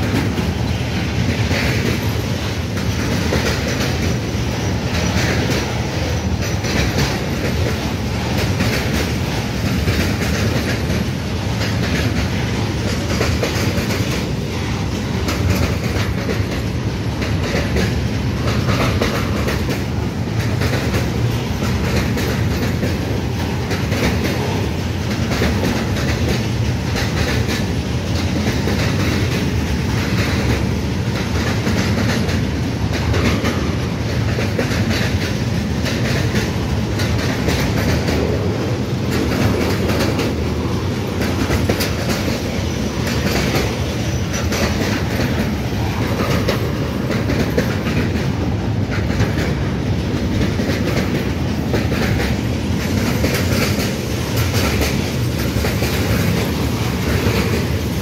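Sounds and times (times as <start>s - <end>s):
freight train wheels rumbling: 0.0s - 58.0s
wheels clickety-clack: 0.0s - 58.0s.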